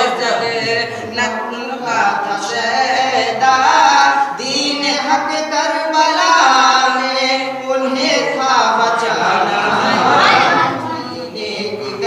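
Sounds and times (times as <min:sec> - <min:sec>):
young male voice singing: 0:00.0 - 0:12.0.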